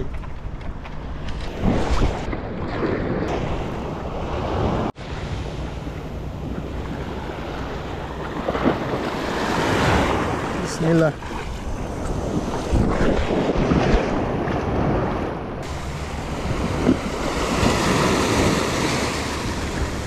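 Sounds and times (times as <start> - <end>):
wind buffeting microphone: 0.0 - 20.0
sea waves washing ashore: 0.9 - 20.0.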